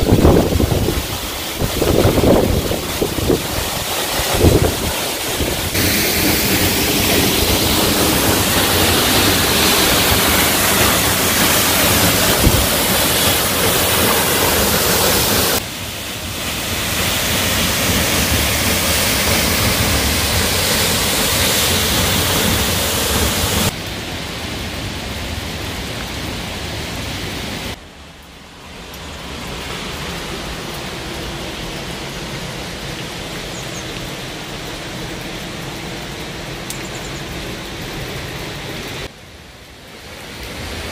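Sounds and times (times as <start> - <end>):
waterfall rushing into pool: 0.0 - 40.9.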